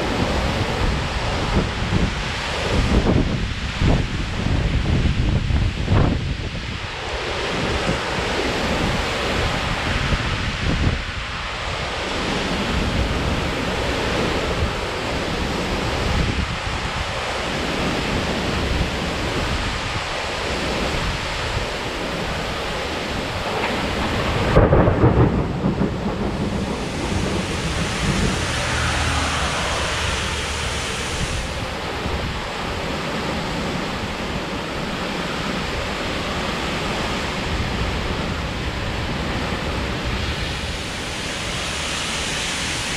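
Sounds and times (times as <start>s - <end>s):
heavy rain pouring: 0.0s - 42.9s
wind gusting: 0.0s - 42.9s.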